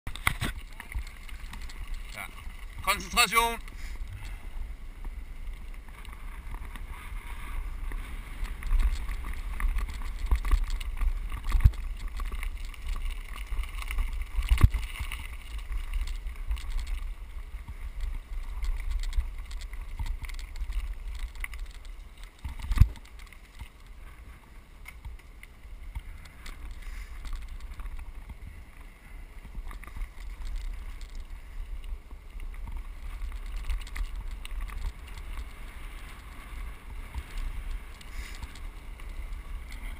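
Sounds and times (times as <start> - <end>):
bike rattling: 0.1 - 39.9
bike tyres crunching over gravel: 0.1 - 39.9
wind rumble on microphone: 0.1 - 39.9.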